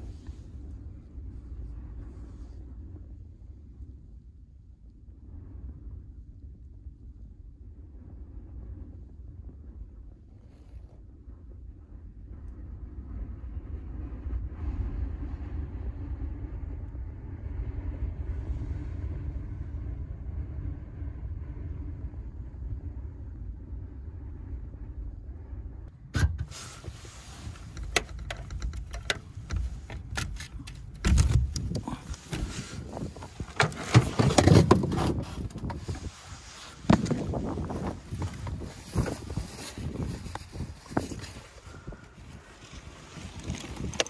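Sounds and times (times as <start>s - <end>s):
muffled storm wind rumble: 0.0s - 44.0s
wind crackling on microphone: 0.0s - 44.0s.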